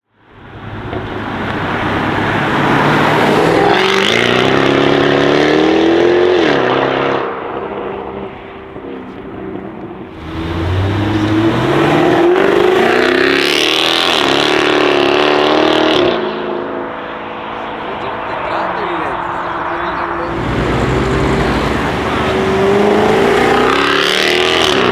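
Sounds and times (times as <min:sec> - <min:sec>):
car engine accelerating hard: 0:00.4 - 0:24.9.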